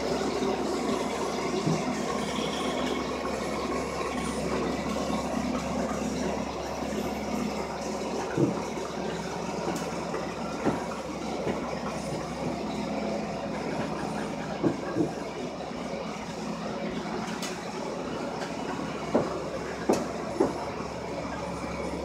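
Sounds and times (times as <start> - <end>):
steam locomotive rolling: 0.0 - 22.0.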